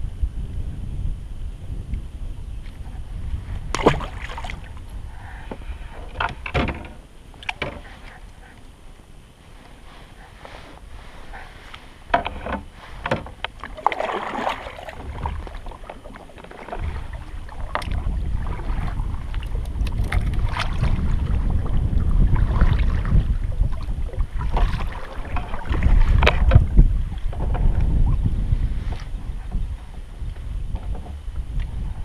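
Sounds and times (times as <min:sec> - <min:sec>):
wind rumbling on microphone: 0:00.0 - 0:32.0
kayak paddle strokes in water: 0:02.6 - 0:32.0.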